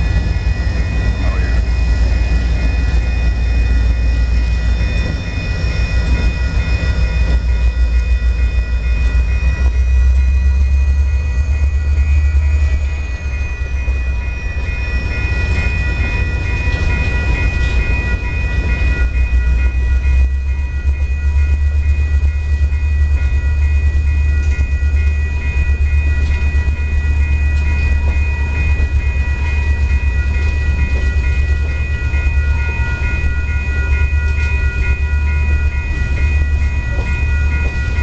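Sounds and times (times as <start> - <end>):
boxcars rolling: 0.0 - 38.0
crossing bell ringing: 0.0 - 38.0
diesel locomotives rumbling: 0.0 - 38.0.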